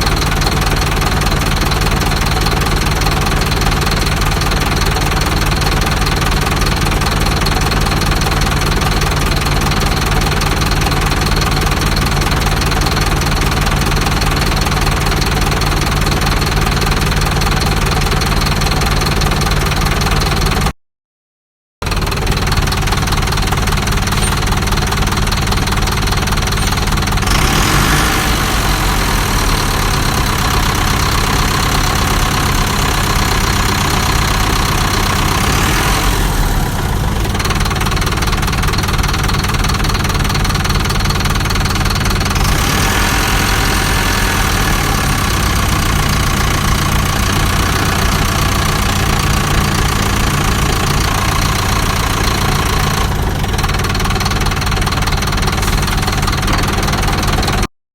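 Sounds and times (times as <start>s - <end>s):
engine idling: 0.0s - 20.7s, 21.8s - 57.7s.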